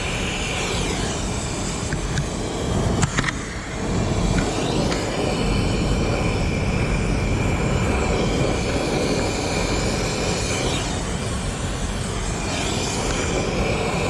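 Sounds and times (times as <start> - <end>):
air conditioner running: 0.0 - 14.0
high whine: 0.0 - 14.0.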